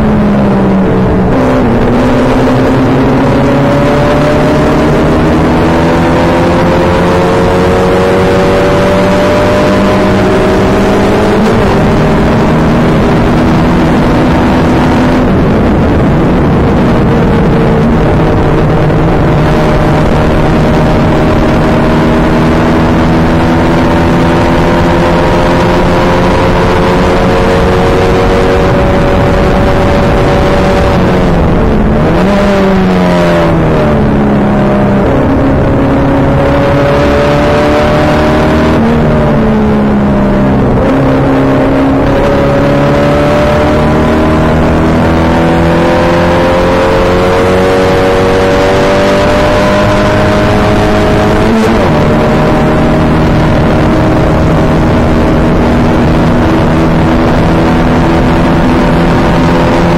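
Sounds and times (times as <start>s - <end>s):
race car engine accelerating: 0.0s - 59.9s
wind and road rush: 0.0s - 59.9s.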